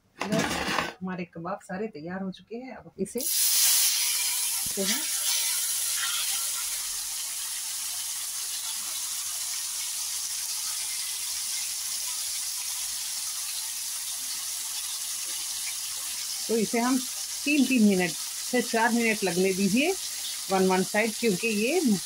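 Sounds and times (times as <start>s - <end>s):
meat sizzling in oil: 3.2s - 22.0s.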